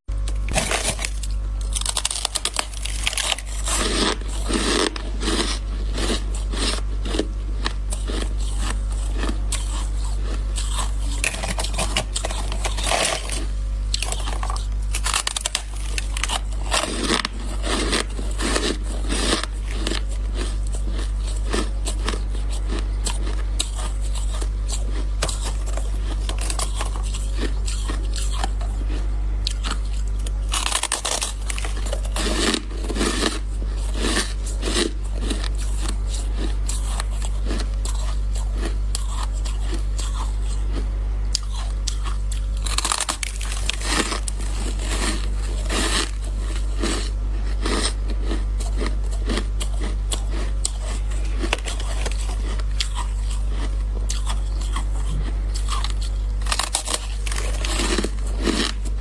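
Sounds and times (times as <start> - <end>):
steady low hum: 0.0 - 59.0
ice being chewed: 0.3 - 59.0.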